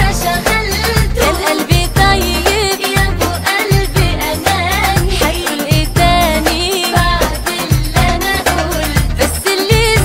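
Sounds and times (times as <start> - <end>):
pop song with singer: 0.0 - 10.0.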